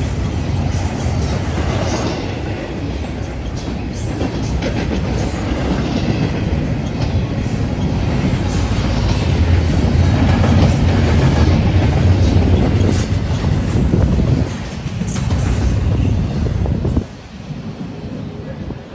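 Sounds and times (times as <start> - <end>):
freight train rumbling past: 0.0 - 18.9
train cars clanking: 0.0 - 18.9.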